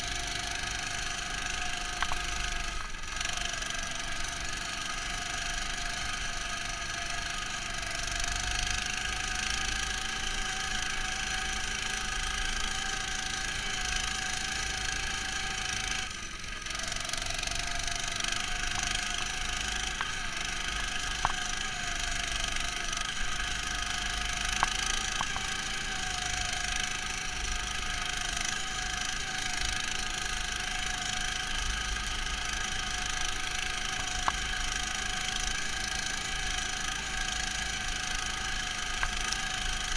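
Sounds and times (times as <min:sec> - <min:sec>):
muffled snowmobile engine: 0:00.0 - 0:39.9.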